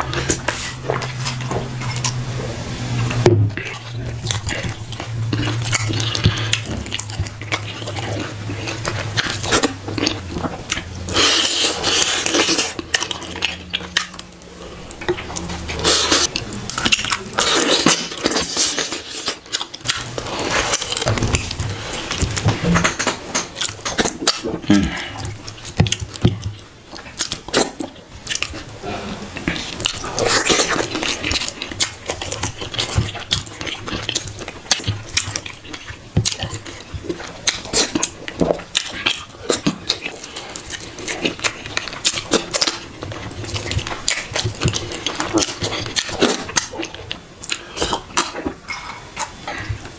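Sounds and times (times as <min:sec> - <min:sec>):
low steady hum: 0:00.0 - 0:49.9
man chewing wetly: 0:00.0 - 0:49.9.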